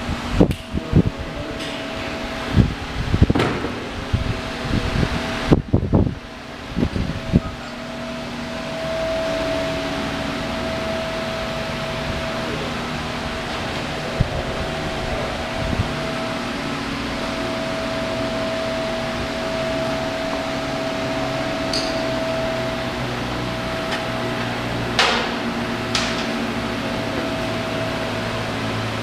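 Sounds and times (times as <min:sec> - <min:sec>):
high whine: 0:00.0 - 0:29.0
workshop machinery hum: 0:00.0 - 0:29.0.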